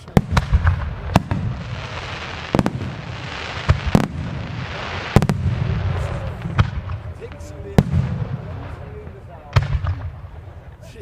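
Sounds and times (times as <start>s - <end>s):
firework hiss: 0.0s - 10.7s
firework shells bursting with bangs: 0.0s - 10.7s.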